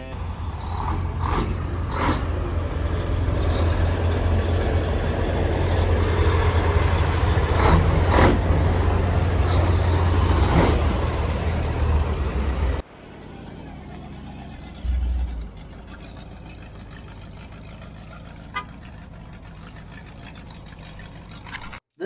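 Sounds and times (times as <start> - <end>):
truck diesel engine rumbling: 0.0 - 21.8.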